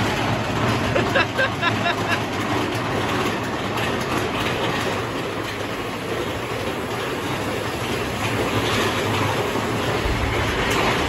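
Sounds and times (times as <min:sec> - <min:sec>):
roller coaster wheels rolling: 0:00.0 - 0:11.0.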